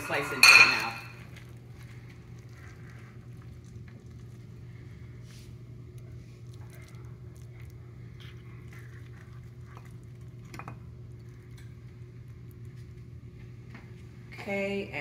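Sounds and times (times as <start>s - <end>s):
steady low hum: 0.0s - 15.0s
spoon squishing and scraping food: 0.1s - 14.1s.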